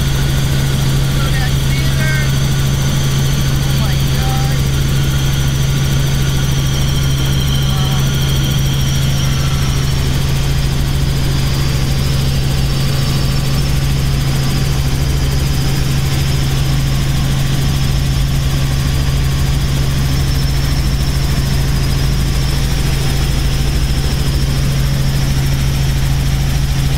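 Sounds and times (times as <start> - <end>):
helicopter engine and rotors drone: 0.0 - 26.9.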